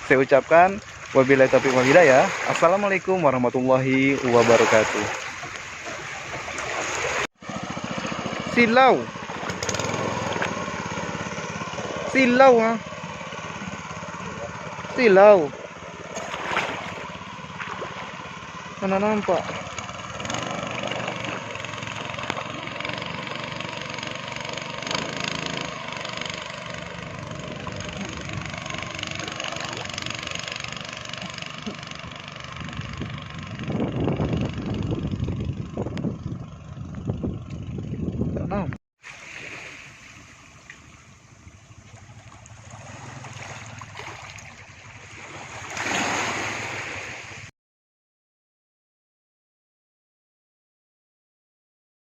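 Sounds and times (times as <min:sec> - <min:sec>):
speedboat engine running: 0:00.0 - 0:47.5
water and wind rushing: 0:00.0 - 0:47.5.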